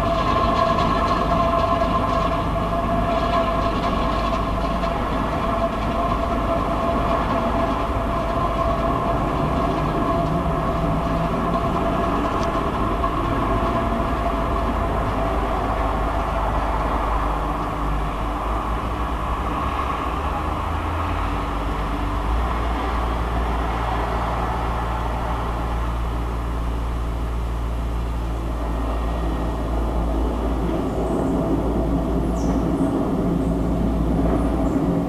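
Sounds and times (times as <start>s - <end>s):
droning hum with held tones: 0.0s - 35.0s.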